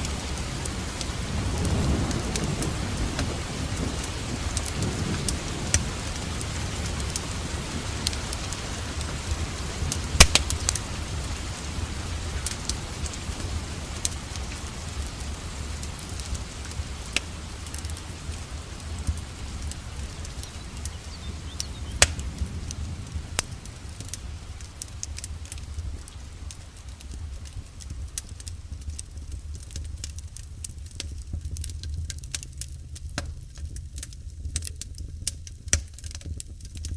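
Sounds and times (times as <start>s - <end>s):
wood fire crackling and popping: 0.0s - 36.9s.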